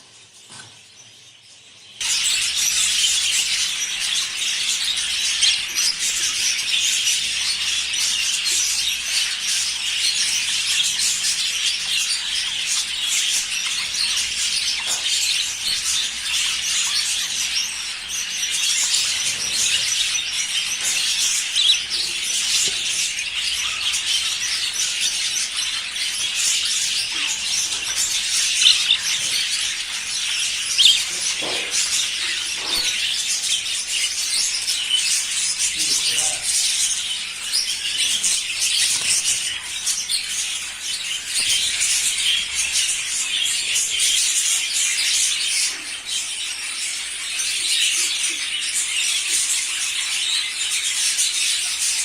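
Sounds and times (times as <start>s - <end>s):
budgerigars chattering and warbling: 0.2s - 52.0s.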